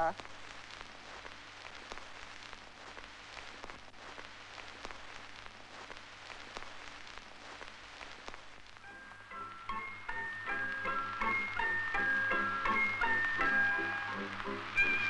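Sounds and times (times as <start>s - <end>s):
crackles: 0.0s - 15.0s
film soundtrack hiss: 0.0s - 15.0s.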